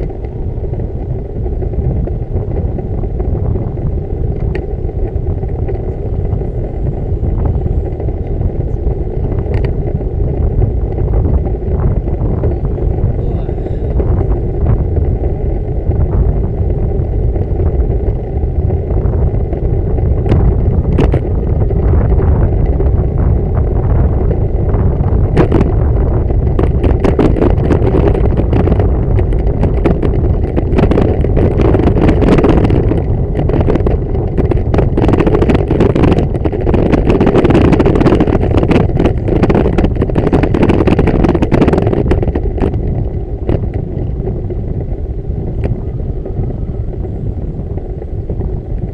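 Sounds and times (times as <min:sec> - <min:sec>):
wind and road rumble on microphone: 0:00.0 - 0:48.9.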